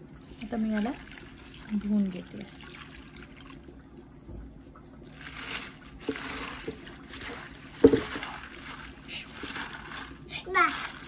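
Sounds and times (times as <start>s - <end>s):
water sloshing in a bowl: 0.0s - 11.0s.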